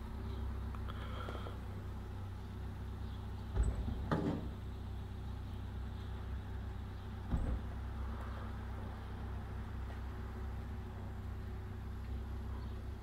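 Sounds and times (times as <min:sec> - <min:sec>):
low outdoor street rumble: 0:00.0 - 0:13.0.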